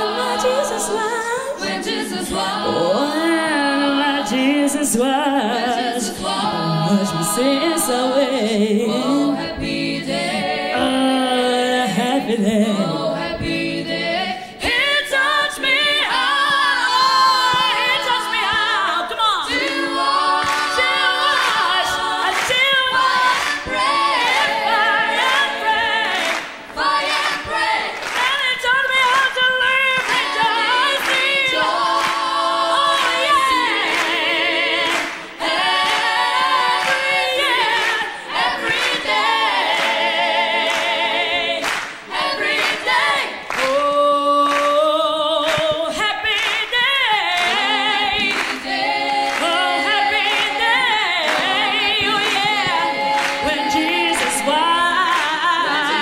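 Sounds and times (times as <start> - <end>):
woman singing a cappella: 0.0 - 56.0.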